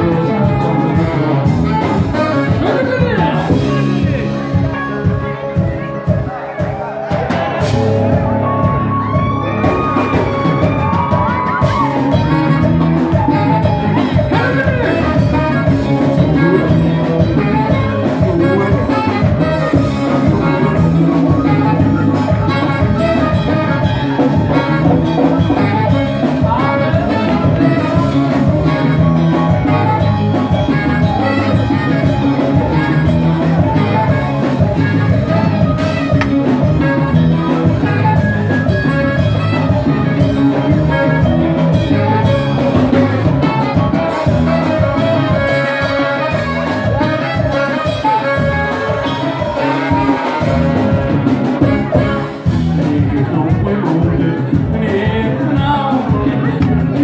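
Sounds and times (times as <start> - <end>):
man singing: 0.0 - 8.0, 9.4 - 57.0
saxophones: 0.0 - 53.7
electric guitar: 0.0 - 57.0
keyboard: 0.0 - 57.0.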